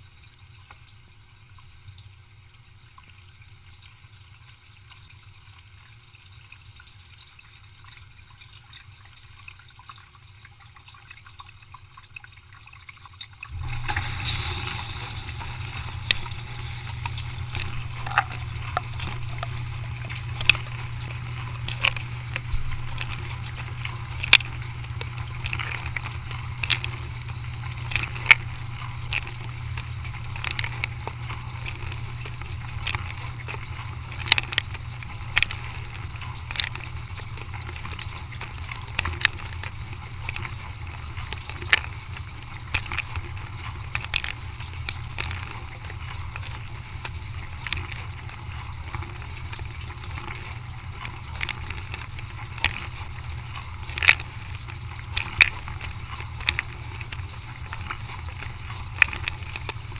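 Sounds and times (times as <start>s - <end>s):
dishwasher motor hum: 0.0s - 59.9s
dishwasher water noise: 0.0s - 59.9s.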